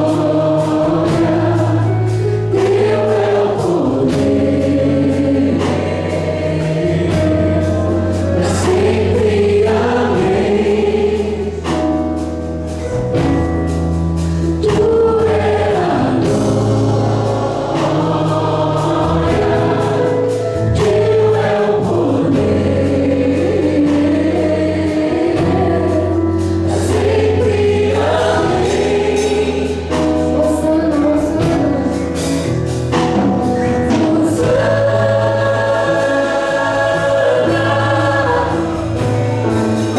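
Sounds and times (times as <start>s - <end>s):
choir singing gospel music: 0.0s - 39.9s
held bass notes: 0.0s - 39.9s.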